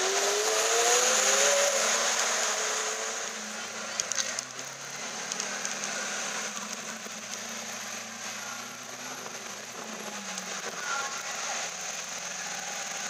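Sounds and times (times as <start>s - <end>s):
car engine at low revs: 0.0s - 13.0s
street noise: 0.0s - 13.0s.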